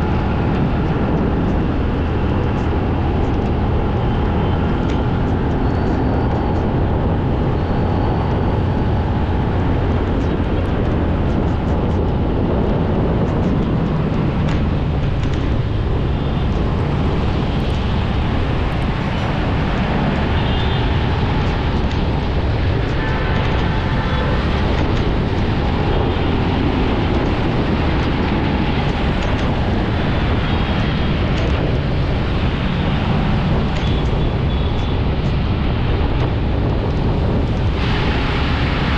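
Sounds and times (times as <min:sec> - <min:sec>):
traffic noise: 0:00.0 - 0:38.9
vehicle engine and tyres: 0:00.0 - 0:38.9.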